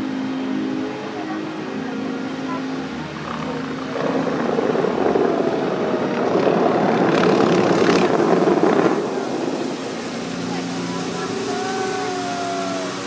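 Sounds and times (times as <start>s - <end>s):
fountain water jets rushing: 0.0s - 13.0s.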